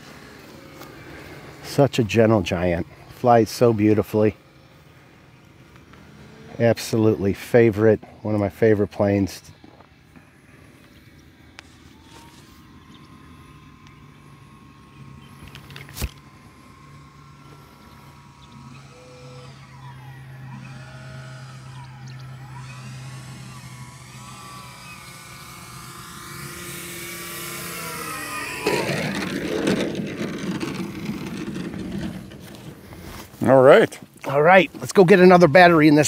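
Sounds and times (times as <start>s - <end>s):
model plane motor whine: 0.0s - 36.0s
plane rolling on grass: 0.0s - 36.0s.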